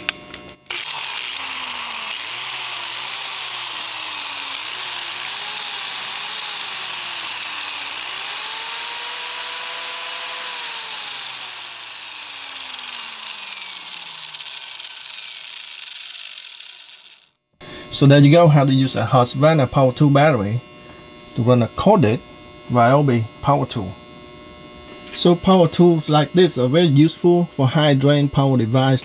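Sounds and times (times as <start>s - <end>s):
angle grinder motor whine: 0.0s - 29.0s.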